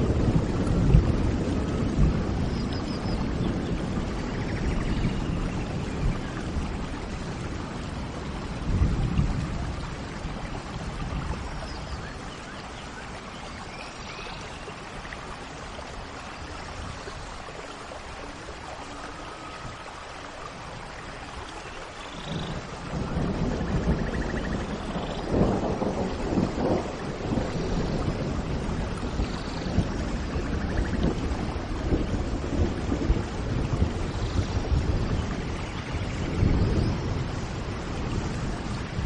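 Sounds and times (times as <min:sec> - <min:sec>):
low rolls of thunder: 0:00.0 - 0:12.5, 0:18.2 - 0:39.0
steady rain: 0:00.0 - 0:39.0.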